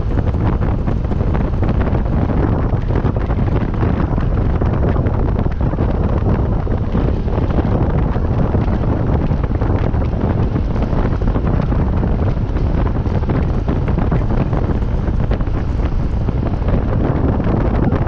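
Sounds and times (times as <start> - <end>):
vehicle running noise: 0.0 - 18.0
wind buffeting microphone: 0.0 - 18.0.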